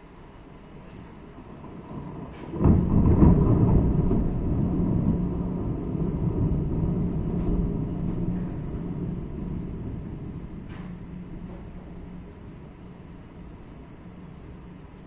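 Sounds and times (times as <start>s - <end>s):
steady low hum: 0.0s - 15.0s
thunder rumble: 0.3s - 15.0s.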